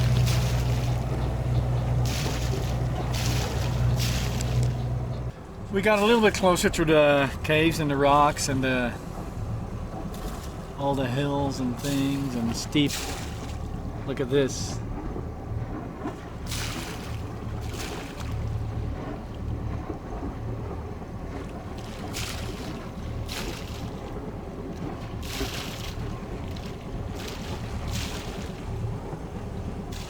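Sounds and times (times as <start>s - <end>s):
low rumble of sailboat: 0.0s - 30.0s
water rushing along hull: 0.0s - 30.0s
wind buffeting microphone: 0.0s - 30.0s.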